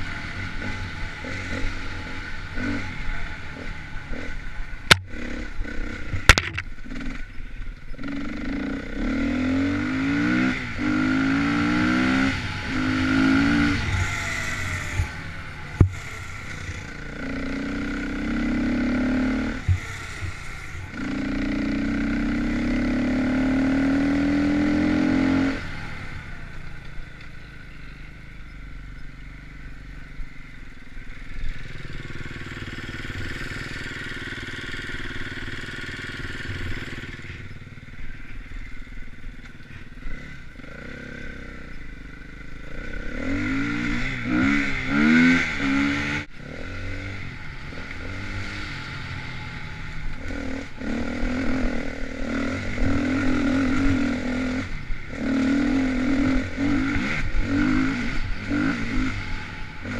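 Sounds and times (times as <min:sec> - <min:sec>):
dirt bike engine revving: 0:00.0 - 0:26.8, 0:31.1 - 0:59.9.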